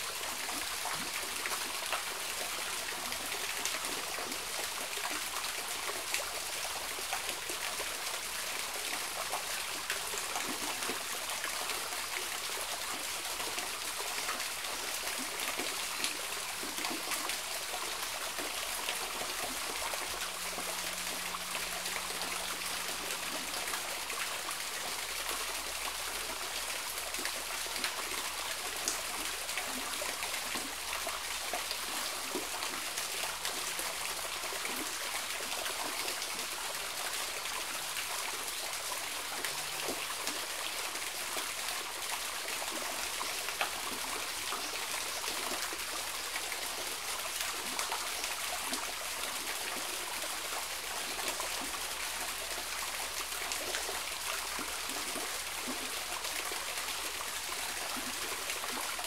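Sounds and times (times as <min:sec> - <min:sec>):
small waterfall trickling over rocks: 0:00.0 - 0:59.0.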